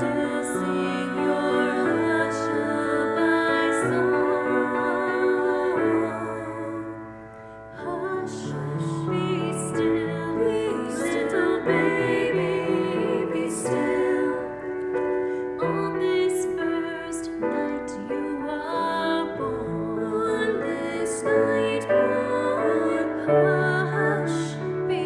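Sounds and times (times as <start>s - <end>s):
piano accompaniment: 0.0s - 25.0s
voices singing christmas song: 0.0s - 25.0s.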